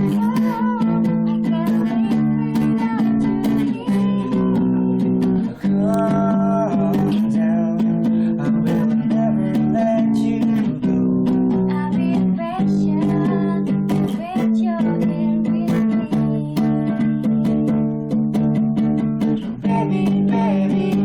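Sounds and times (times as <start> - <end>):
strummed acoustic guitar song: 0.0 - 21.0.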